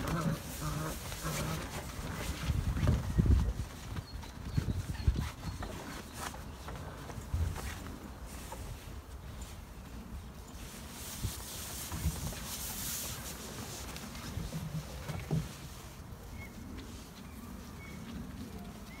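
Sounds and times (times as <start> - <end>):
paws pattering on wooden boards: 0.0 - 10.0, 11.4 - 19.0
paws brushing fabric tunnel: 0.0 - 19.0.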